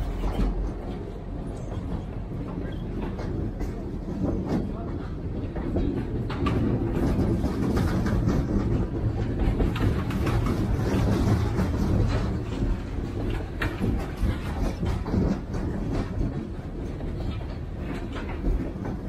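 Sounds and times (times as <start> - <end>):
train rumbling past: 0.0 - 19.0
wheels clacking over rails: 0.0 - 19.0.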